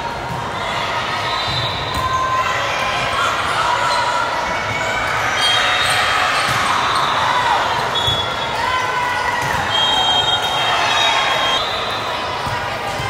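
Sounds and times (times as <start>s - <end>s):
voices echoing in sports hall: 0.0s - 13.0s.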